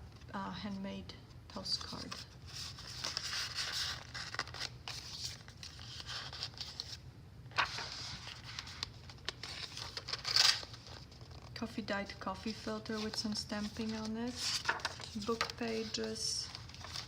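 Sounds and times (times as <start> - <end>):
paper rustling and crinkling: 1.5 - 11.6, 12.4 - 17.0.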